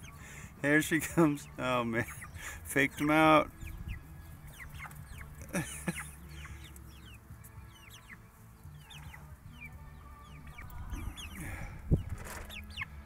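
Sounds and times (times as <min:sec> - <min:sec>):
hens clucking and chirping: 0:00.0 - 0:13.0.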